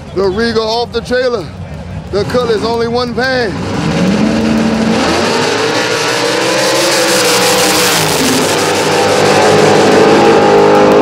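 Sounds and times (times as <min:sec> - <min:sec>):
drag racing cars accelerating: 0:00.1 - 0:11.0.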